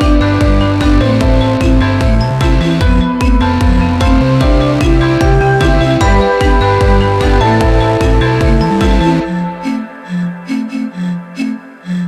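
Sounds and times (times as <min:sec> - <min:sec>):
electronic music with synth and beat: 0:00.0 - 0:12.0.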